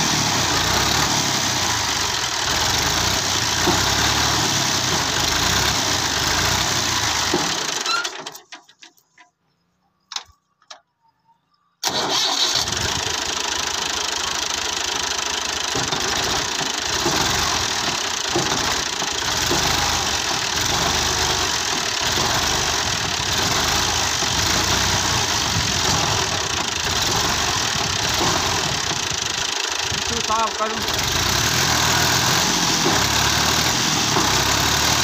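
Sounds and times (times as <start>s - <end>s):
tractor diesel engine running: 0.0s - 10.8s, 11.8s - 35.0s.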